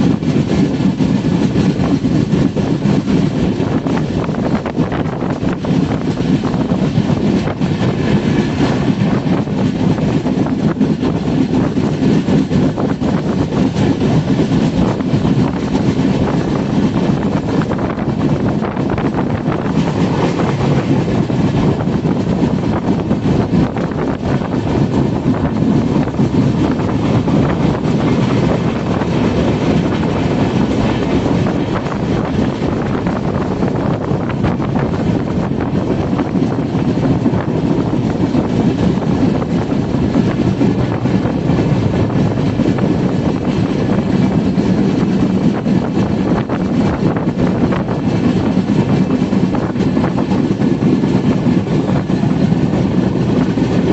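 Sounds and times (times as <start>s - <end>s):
train rumbling on track: 0.0s - 53.9s
wind buffeting microphone: 0.0s - 53.9s.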